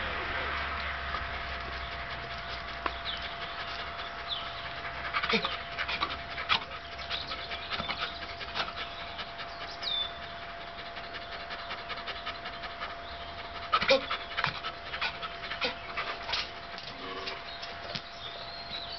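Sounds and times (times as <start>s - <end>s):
dogs panting: 0.0s - 18.9s.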